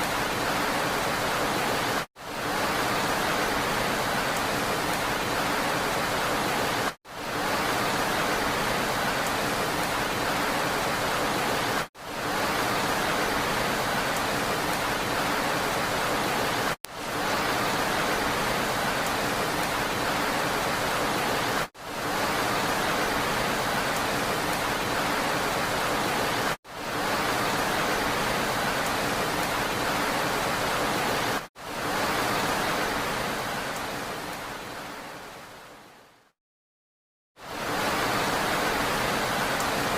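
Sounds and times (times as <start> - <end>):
steady rain hiss: 0.0 - 36.3, 37.4 - 39.9.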